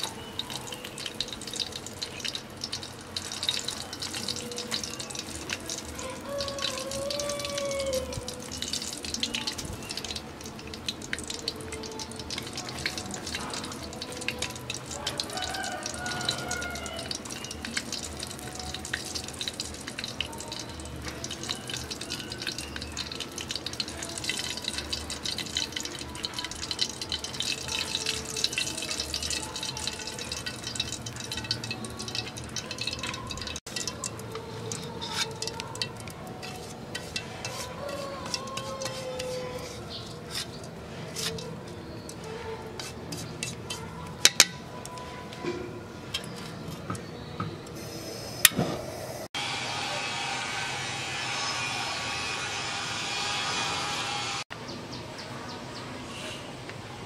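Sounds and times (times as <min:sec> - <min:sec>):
fish deep-frying in oil: 0:00.0 - 0:48.7.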